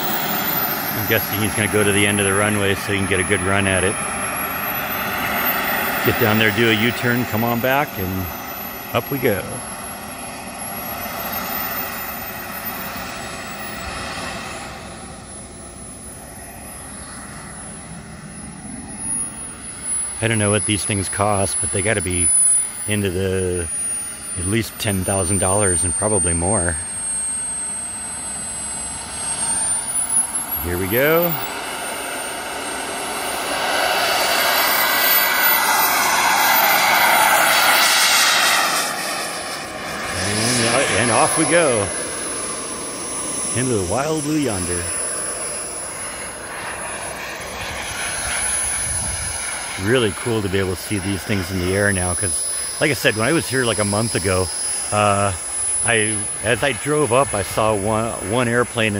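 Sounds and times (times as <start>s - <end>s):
model jet turbine whine: 0.0s - 58.9s.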